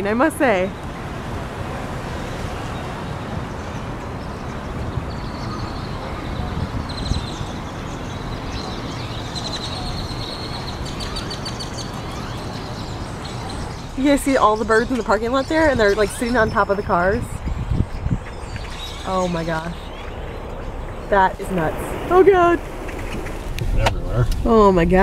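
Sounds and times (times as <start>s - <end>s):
flock of blackbirds calling: 0.1s - 24.6s
steady low rumble: 3.2s - 25.0s.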